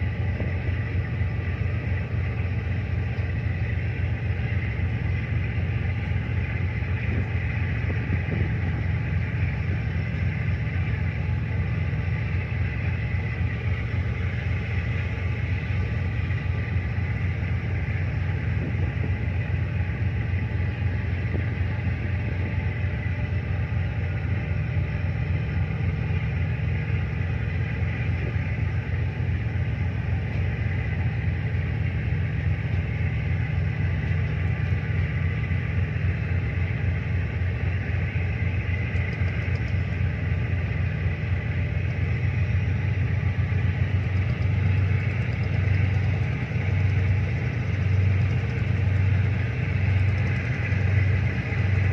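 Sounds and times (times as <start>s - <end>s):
diesel engine rumbling: 0.0s - 51.9s.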